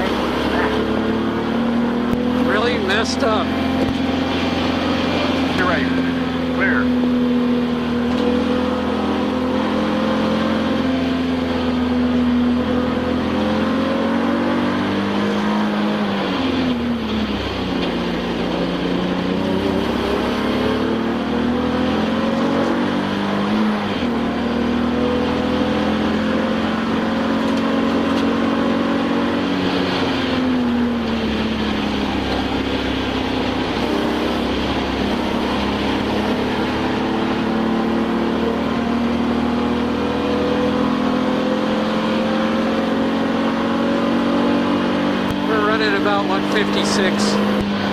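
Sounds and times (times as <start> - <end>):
race car engine: 0.0 - 47.9
wind and road noise: 0.0 - 47.9.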